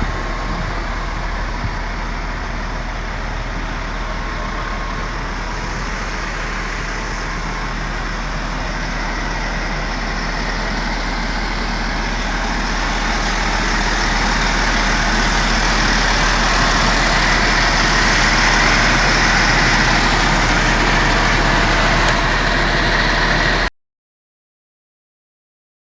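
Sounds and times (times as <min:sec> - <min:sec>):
heavy vehicle engine and road noise: 0:00.0 - 0:23.7.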